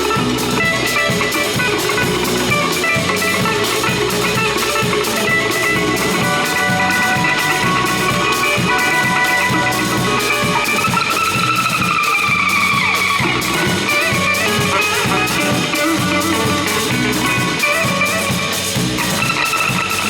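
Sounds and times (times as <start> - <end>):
live cumbia band playing: 0.0 - 20.0.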